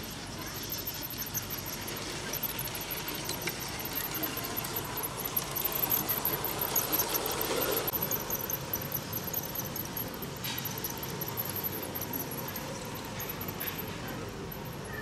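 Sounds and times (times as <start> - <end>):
model train wheels clicking on rails: 0.0 - 15.0
high-pitched chirping: 0.4 - 15.0.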